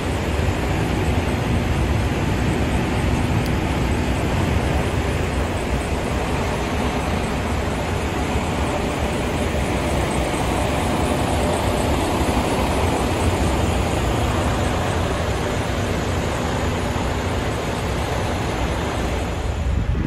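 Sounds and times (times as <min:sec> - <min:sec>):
diesel truck engines running: 0:00.0 - 0:20.0.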